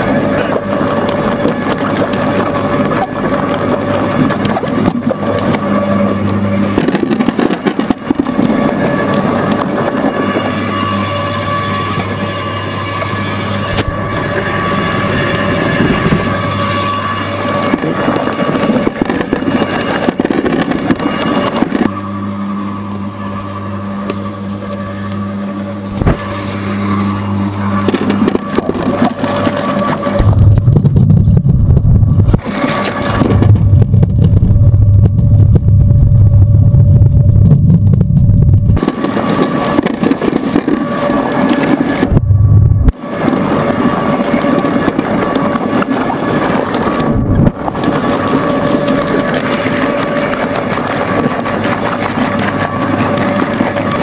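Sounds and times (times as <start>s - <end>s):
apples crunching in grinder: 0.0s - 30.7s, 38.8s - 42.2s, 43.1s - 54.0s
motor humming: 0.0s - 54.0s.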